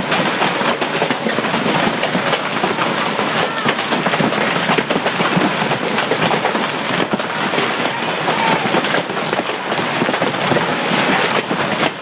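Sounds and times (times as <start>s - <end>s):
hail and rain pelting: 0.0s - 12.0s.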